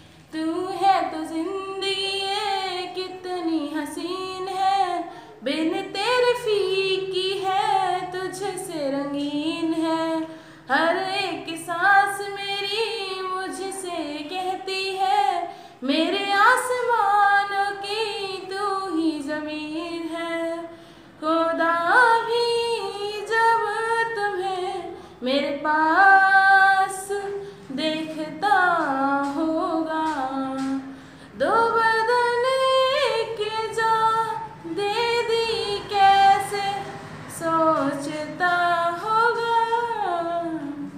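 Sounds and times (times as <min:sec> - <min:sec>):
woman singing unaccompanied: 0:00.0 - 0:40.9.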